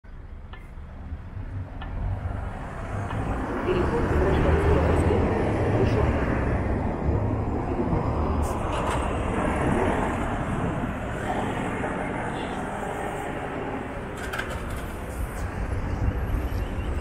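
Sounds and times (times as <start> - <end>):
rumble of traffic: 0.0 - 17.0
bus driving past: 0.9 - 17.0.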